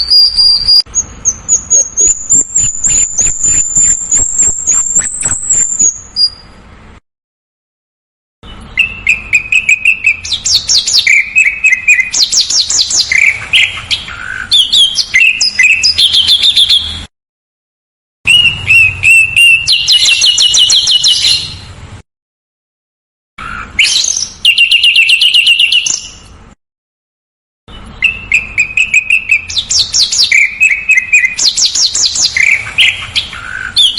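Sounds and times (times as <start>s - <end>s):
songbird trills and chirps: 0.0s - 6.6s, 8.4s - 17.0s, 18.3s - 21.7s, 23.4s - 26.4s, 27.7s - 33.9s.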